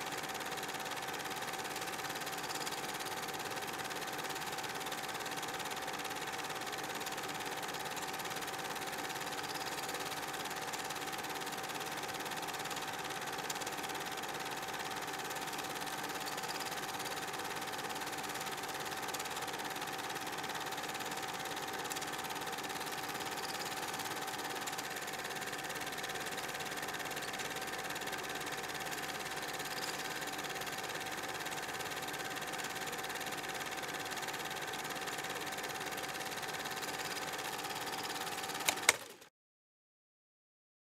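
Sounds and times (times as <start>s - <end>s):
film projector whirring: 0.0s - 39.3s.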